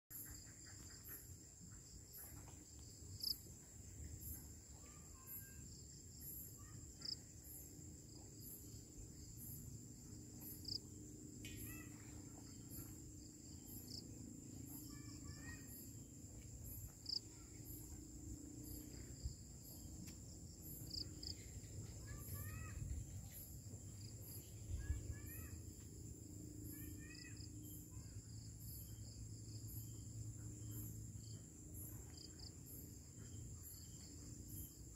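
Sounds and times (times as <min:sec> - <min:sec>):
crickets chirping: 0:00.1 - 0:34.9
high-pitched insect trill: 0:00.2 - 0:34.9.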